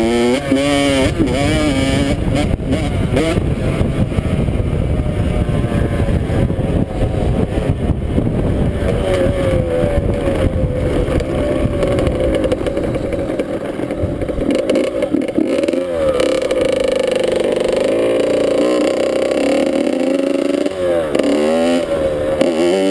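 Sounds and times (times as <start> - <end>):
dirt bike engine revving: 0.0 - 22.9
heavy low rumble: 1.1 - 19.6.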